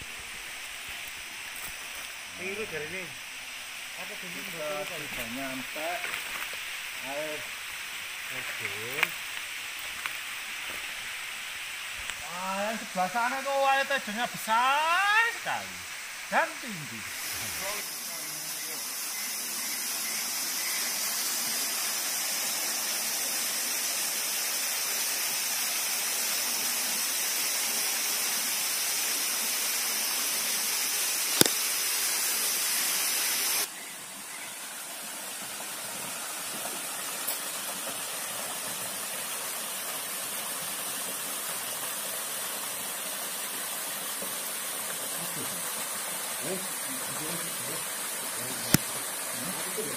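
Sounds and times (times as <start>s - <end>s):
waterfall rushing: 0.0s - 33.7s, 34.5s - 49.9s.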